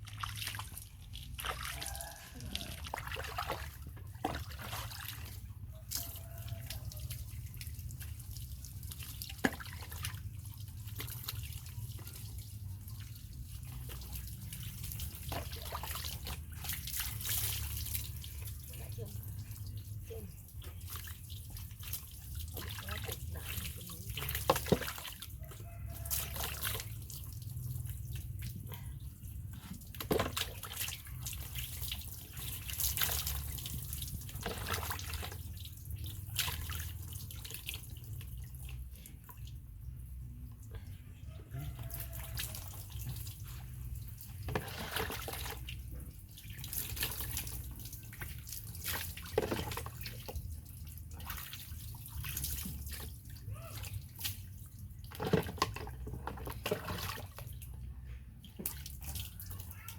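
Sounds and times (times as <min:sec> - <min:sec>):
water splashing and dripping: 0:00.0 - 0:59.9.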